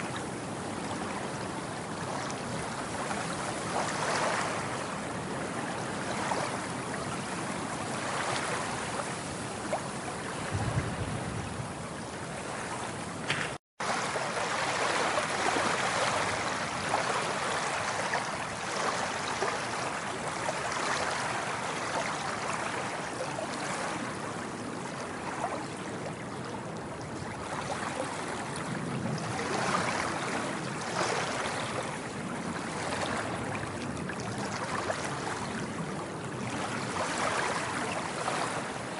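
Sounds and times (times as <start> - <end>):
ocean waves washing in: 0.0 - 38.9.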